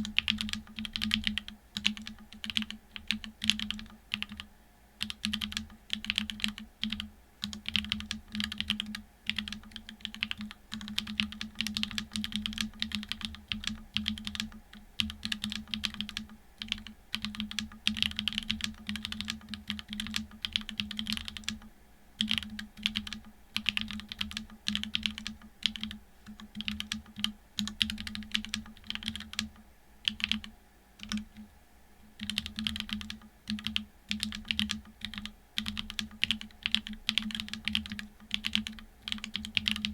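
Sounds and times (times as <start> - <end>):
typing on mechanical keyboard: 0.0 - 31.4, 32.2 - 39.9.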